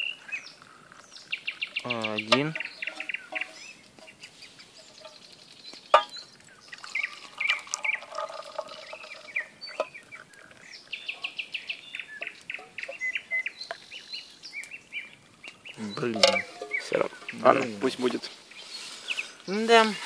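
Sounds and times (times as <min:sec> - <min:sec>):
small bird chirping: 0:00.0 - 0:19.9.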